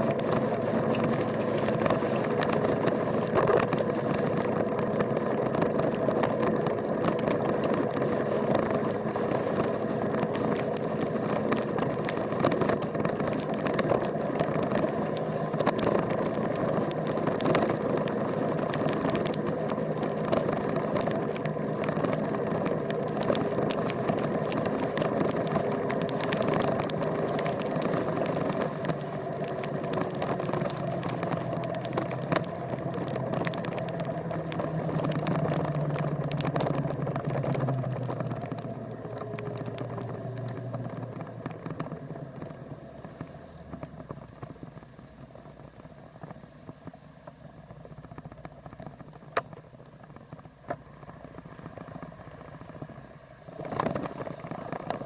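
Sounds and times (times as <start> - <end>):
sharp clicks and rattles: 0.0 - 55.0
vehicle engine running: 0.0 - 55.0.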